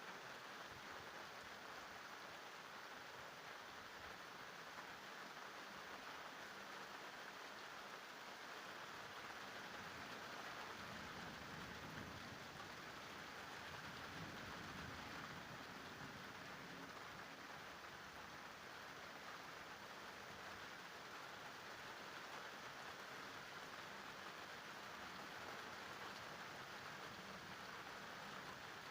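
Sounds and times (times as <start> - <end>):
faint rain falling: 0.0 - 28.9.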